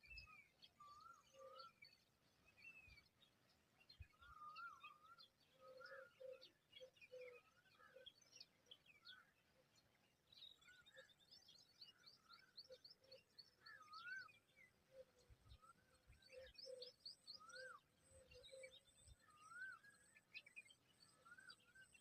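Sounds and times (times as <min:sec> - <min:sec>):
whistled birdsong phrases: 0:00.0 - 0:22.0.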